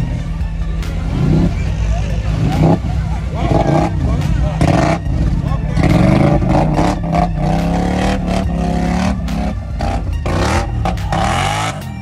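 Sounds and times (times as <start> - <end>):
atv engine revving: 0.0 - 12.0
tires spinning through mud: 1.0 - 12.0.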